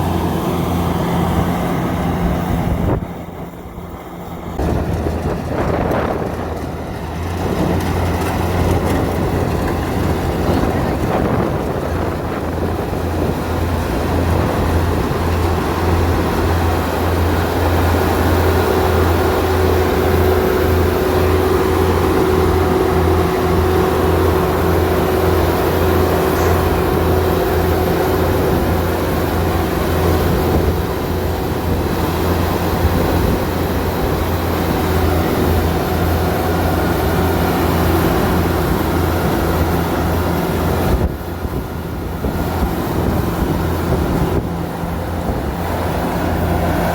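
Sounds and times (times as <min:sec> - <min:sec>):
diesel engine hum: 0:00.0 - 0:46.9
machinery whine: 0:00.0 - 0:46.9.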